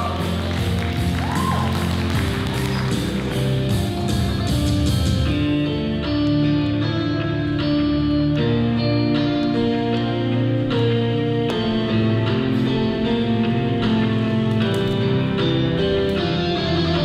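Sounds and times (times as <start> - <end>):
guitar-led music with beat: 0.0 - 17.0.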